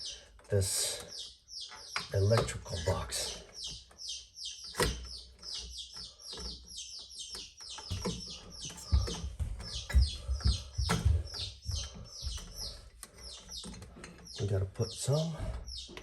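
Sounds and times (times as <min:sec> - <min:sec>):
bird chirping rapidly: 0:00.0 - 0:16.0.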